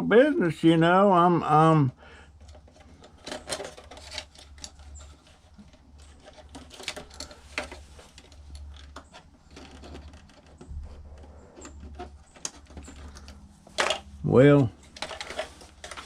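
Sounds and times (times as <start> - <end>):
steady low hum: 1.9 - 16.0
clatter of small parts handled: 2.3 - 16.0.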